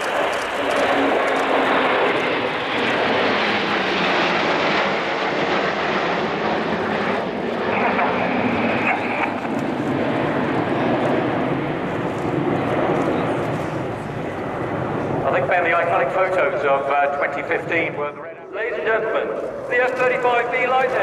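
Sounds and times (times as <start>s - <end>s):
jet engine rushing noise: 0.0s - 21.0s.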